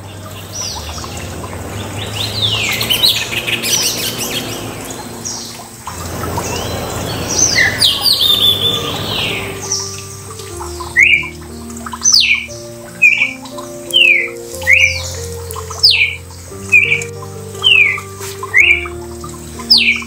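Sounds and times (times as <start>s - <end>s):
bird chicks shrill chirping: 0.0s - 20.0s
steady hiss: 0.0s - 20.0s.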